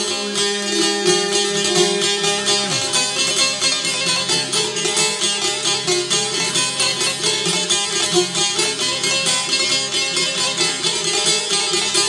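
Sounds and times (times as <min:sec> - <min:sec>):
plucked long-necked lutes: 0:00.0 - 0:12.0.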